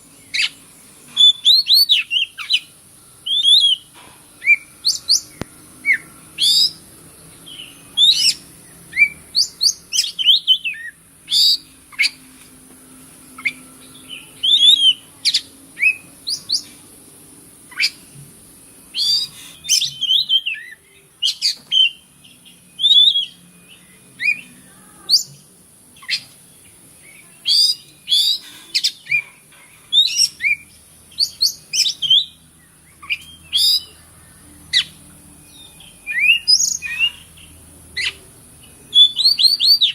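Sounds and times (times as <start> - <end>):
steady high hiss: 0.0 - 39.9
songbird whistling and chirping: 0.2 - 6.9, 7.5 - 12.2, 13.4 - 16.8, 17.7 - 18.1, 18.9 - 25.4, 27.0 - 39.9.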